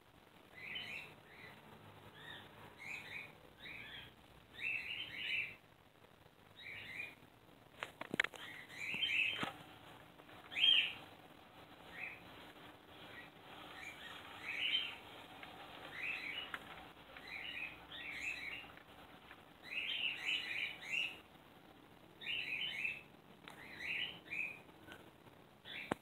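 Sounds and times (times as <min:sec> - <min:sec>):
faint steady hum: 0:00.0 - 0:26.0
small bird chirping: 0:00.4 - 0:05.6, 0:06.5 - 0:26.0.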